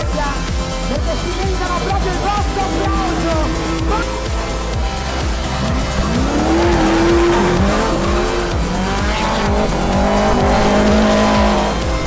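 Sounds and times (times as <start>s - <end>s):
music with steady beat: 0.0s - 12.0s
engine revving hard: 1.1s - 12.0s
tyres squealing: 1.3s - 12.0s.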